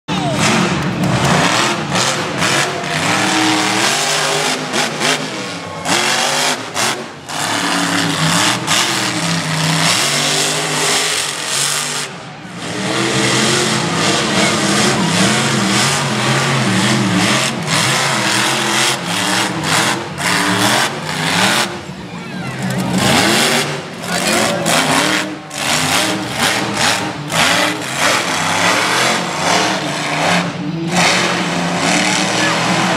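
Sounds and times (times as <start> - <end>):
monster truck engine revving: 0.1 - 32.9.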